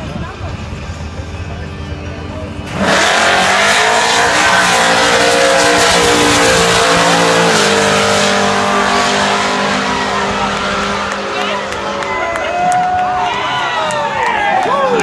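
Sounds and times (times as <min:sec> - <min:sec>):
drag car engines revving: 0:00.0 - 0:15.0.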